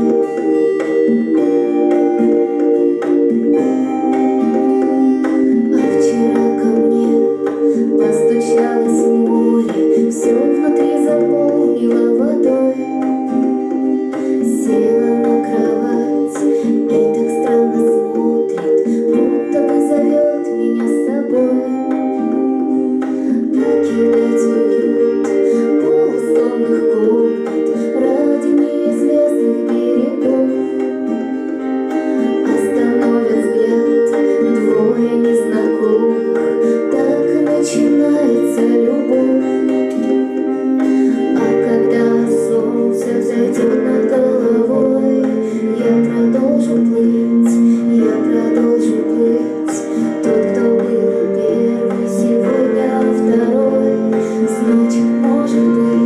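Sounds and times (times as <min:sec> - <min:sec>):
keyboard chords: 0:00.0 - 0:56.0
percussion hits: 0:00.0 - 0:56.0
plucked guitar: 0:00.0 - 0:56.0.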